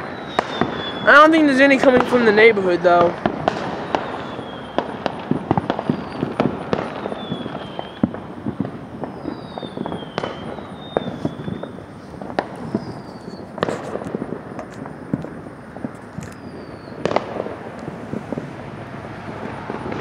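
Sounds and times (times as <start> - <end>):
fireworks popping and banging: 0.0 - 20.0
fireworks whistling: 0.0 - 20.0.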